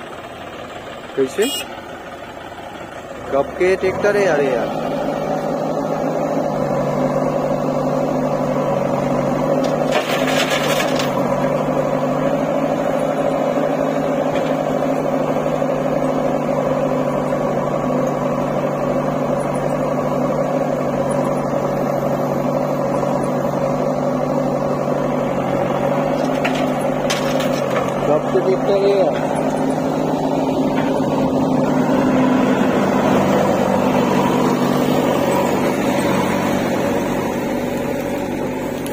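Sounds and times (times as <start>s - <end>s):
diesel engines idling: 0.0s - 38.9s.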